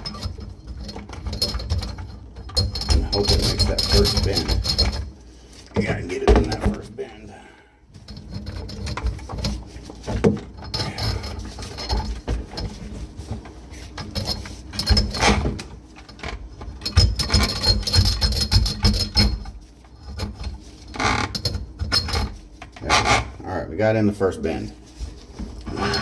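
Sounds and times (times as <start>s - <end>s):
drain snake cable rattling in pipe: 0.0s - 7.1s, 7.9s - 24.6s, 25.2s - 26.0s.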